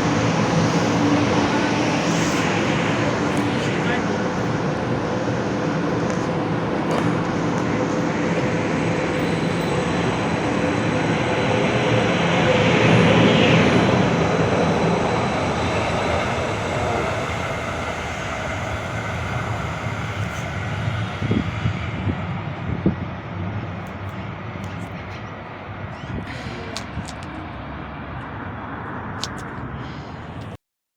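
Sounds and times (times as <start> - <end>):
moving vehicle running: 0.0 - 30.6.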